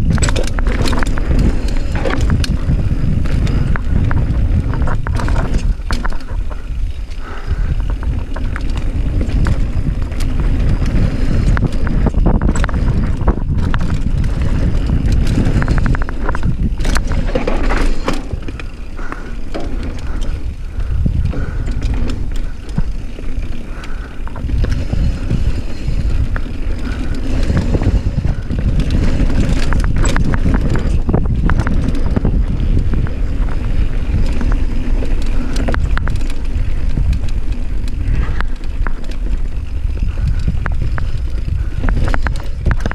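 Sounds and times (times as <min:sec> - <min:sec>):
bike rattling and knocking: 0:00.0 - 0:42.9
tyres rolling over rock and dirt: 0:00.0 - 0:42.9
wind rumbling on microphone: 0:00.0 - 0:42.9.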